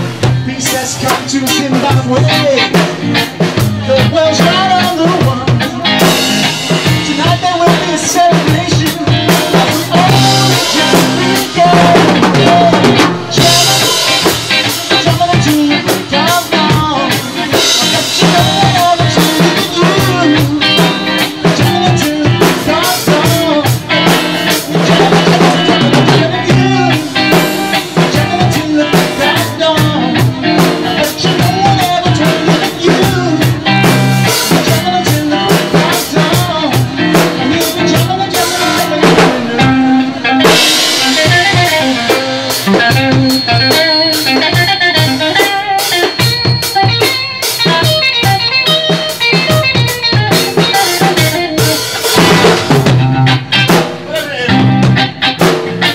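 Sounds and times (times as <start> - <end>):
bass guitar line: 0.0 - 55.9
drum kit beat: 0.0 - 55.9
electric guitar bending notes: 0.0 - 55.9.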